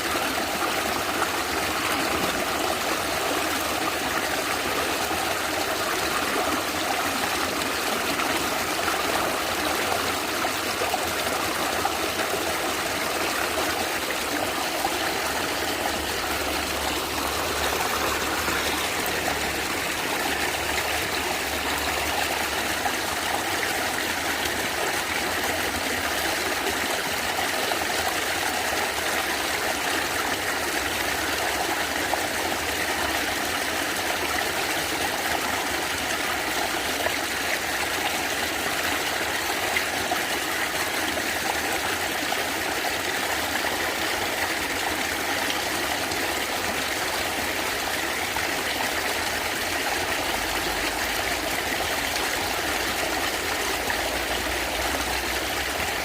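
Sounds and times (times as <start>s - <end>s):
stream gurgling over stones: 0.0s - 56.0s.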